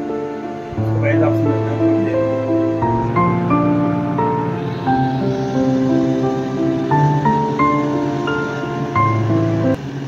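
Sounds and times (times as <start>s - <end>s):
slow melody over held chords: 0.0s - 10.0s.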